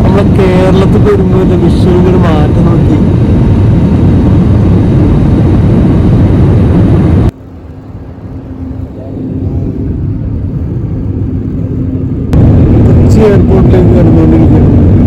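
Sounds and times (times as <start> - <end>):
airliner engine and airflow noise: 0.0 - 15.0
quiet cabin hum: 0.0 - 15.0.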